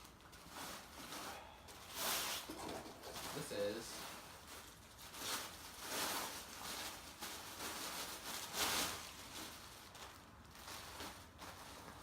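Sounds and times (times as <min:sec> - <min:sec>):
gift packaging rustling: 0:00.0 - 0:12.0.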